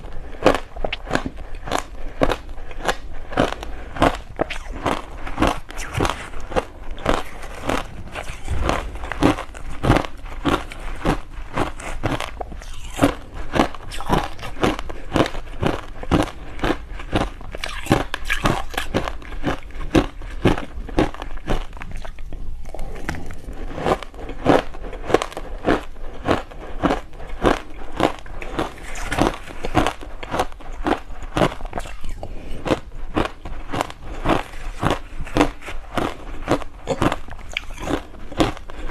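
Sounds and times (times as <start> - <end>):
crunching ice being chewed: 0.0 - 38.9.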